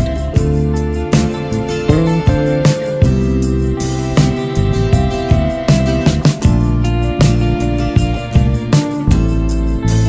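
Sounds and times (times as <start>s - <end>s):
soft plucked guitar music: 0.0s - 10.0s.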